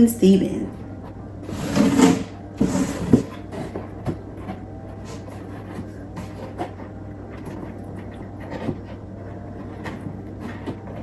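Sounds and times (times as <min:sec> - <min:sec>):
low room hum: 0:00.0 - 0:11.0
paper and foam board handling: 0:01.4 - 0:11.0.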